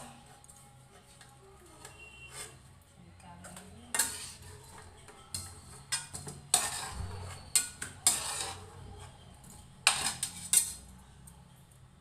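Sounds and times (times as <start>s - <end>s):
metal spoon scraping a pot: 0.0s - 2.7s, 3.4s - 11.2s.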